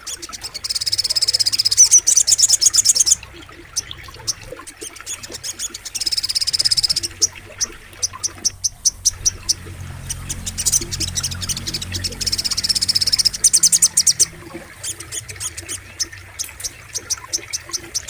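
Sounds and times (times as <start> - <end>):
songbird buzzy trill: 0.3 - 4.3, 5.0 - 18.0.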